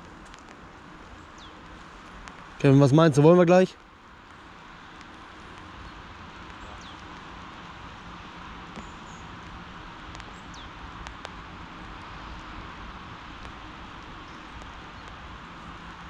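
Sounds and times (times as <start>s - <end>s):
light drizzle hissing: 0.0s - 16.0s.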